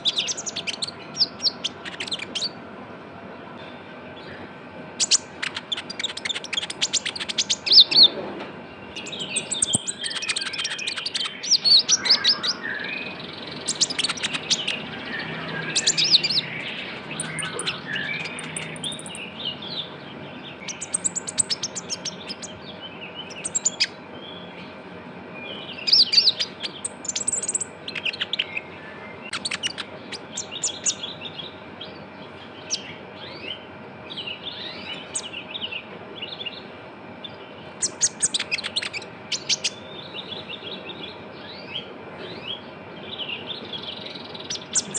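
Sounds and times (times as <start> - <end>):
sunbird chattering song: 0.0 - 2.6, 5.0 - 24.7, 25.4 - 44.9.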